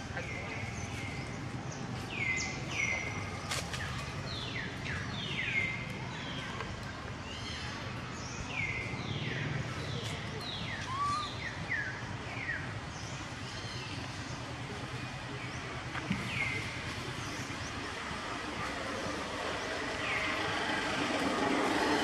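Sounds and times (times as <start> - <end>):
low outdoor background: 0.0 - 22.0.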